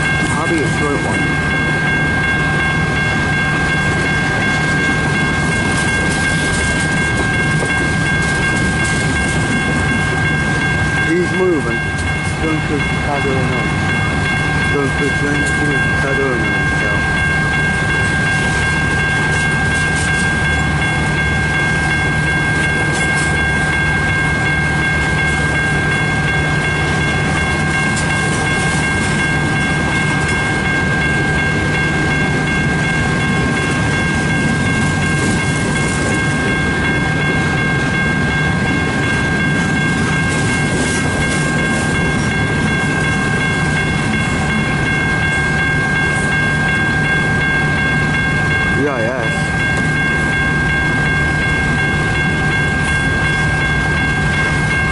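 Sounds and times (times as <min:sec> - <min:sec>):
freight train rolling past: 0:00.0 - 0:54.9
steady high-pitched tone: 0:00.0 - 0:54.9
wheels clattering on rails: 0:00.0 - 0:54.9.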